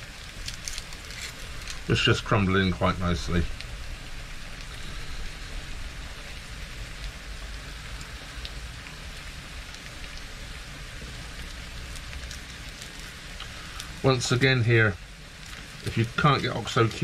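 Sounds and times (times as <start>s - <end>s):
light crackles: 0.0s - 17.0s
meat sizzling in a frying pan: 0.0s - 17.0s.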